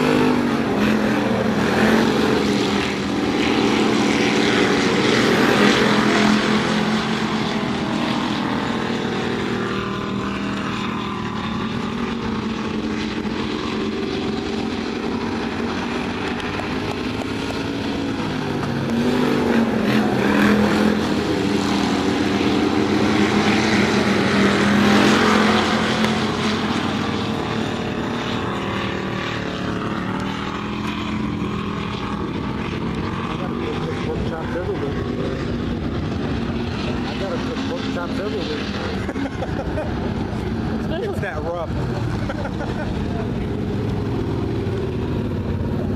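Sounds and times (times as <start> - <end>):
race car engines: 0.0 - 45.9.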